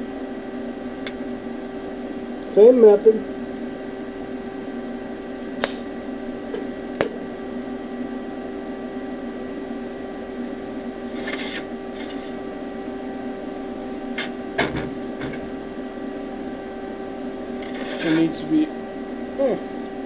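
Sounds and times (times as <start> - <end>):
welder humming: 0.0 - 20.0.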